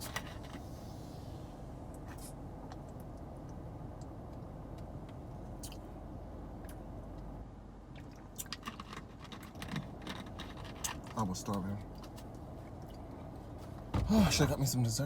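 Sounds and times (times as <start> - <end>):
car hum inside cabin: 0.0 - 15.0.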